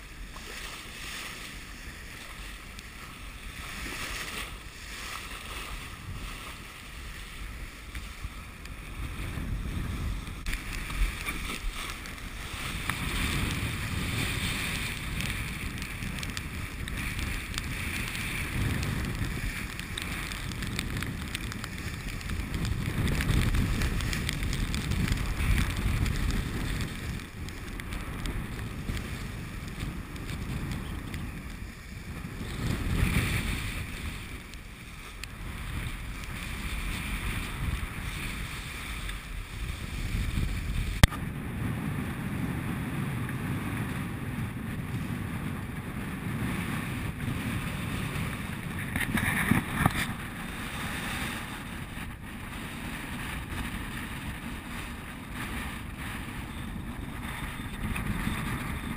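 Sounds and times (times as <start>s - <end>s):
rough sea rushing along hull: 0.0s - 58.9s
wind buffeting microphone: 0.0s - 58.9s.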